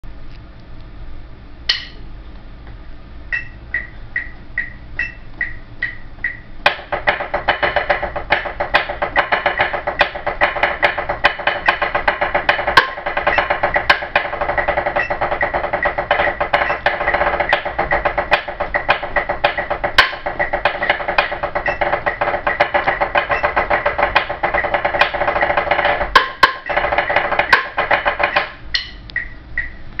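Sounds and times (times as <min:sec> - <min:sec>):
drumsticks on a practice pad: 0:01.7 - 0:02.0, 0:03.3 - 0:29.8.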